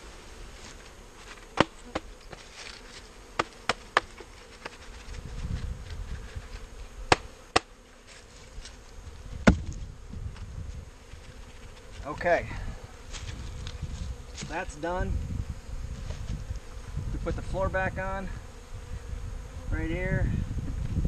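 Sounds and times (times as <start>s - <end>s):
bees buzzing: 0.0s - 20.8s.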